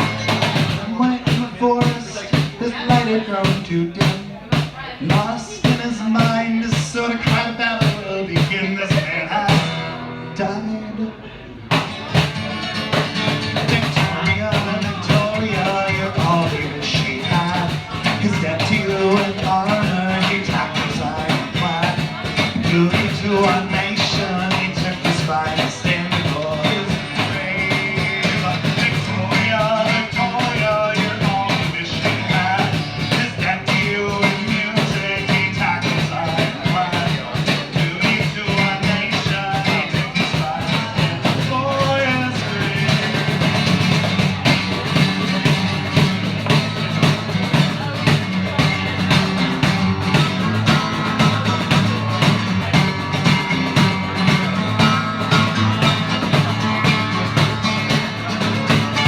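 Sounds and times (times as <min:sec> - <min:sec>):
percussion beat: 0:00.0 - 0:09.9, 0:11.7 - 0:59.0.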